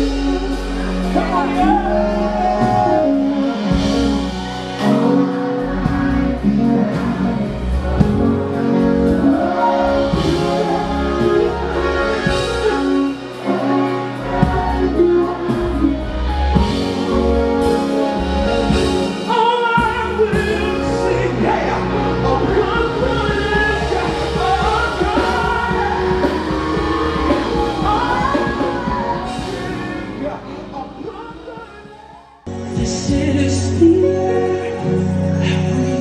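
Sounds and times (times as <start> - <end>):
gospel singer: 0.0 - 36.0
keyboard chords: 0.0 - 36.0.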